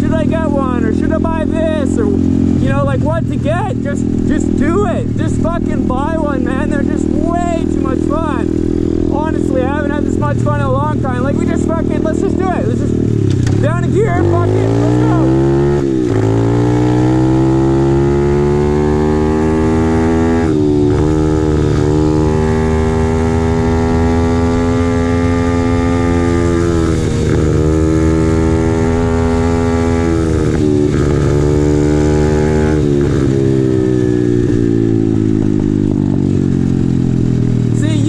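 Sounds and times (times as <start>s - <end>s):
motorbike engine running hard: 0.0s - 38.0s.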